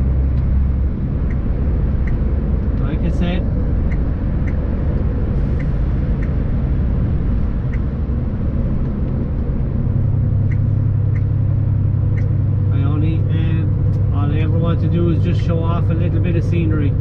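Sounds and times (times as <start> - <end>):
lorry engine and road rumble: 0.0 - 17.0.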